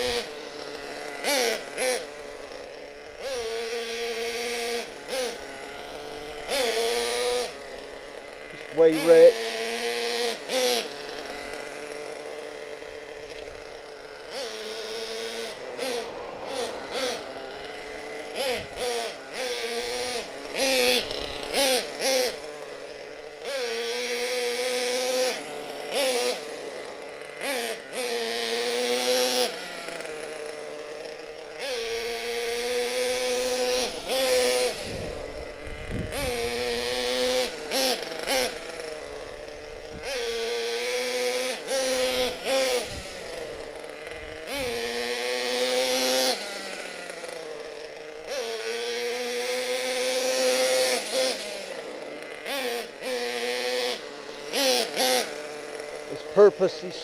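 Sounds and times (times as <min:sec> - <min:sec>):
small nitro engine revving: 0:00.0 - 0:57.0.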